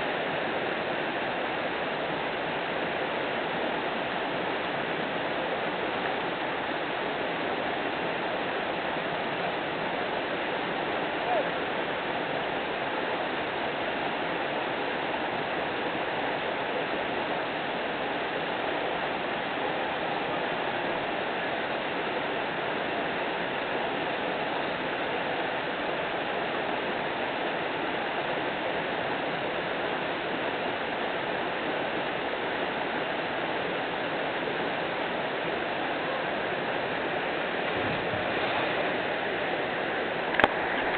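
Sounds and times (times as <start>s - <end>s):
waterfall rushing into pool: 0.0s - 40.9s.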